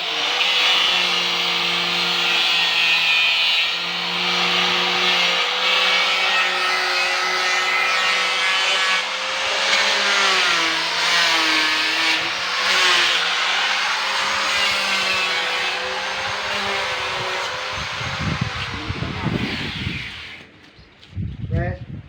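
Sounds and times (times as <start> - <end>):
power sander on sheet metal: 0.0 - 20.5.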